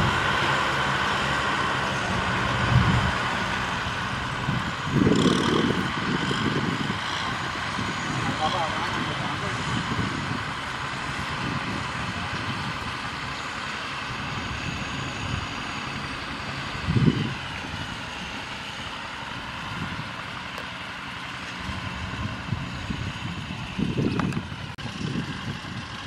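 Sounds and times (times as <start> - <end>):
tractor diesel engines running: 0.0 - 26.0.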